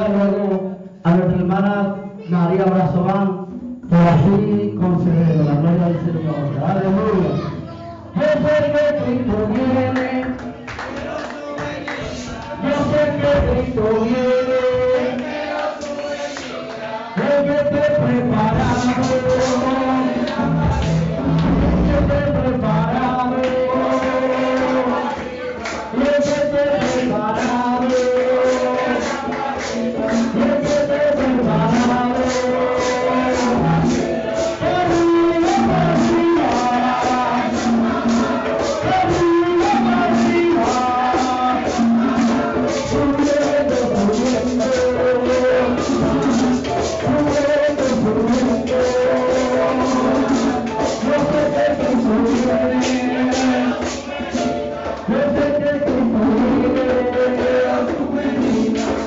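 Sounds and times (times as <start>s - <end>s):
congregation singing with instruments: 0.0s - 59.0s
fast percussion beat: 3.1s - 59.0s.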